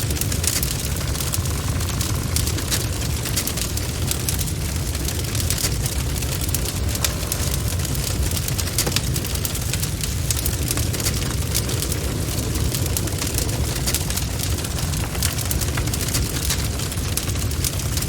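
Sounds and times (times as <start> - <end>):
burning wood crackling: 0.0 - 18.0
low rumble of flames: 0.0 - 18.0.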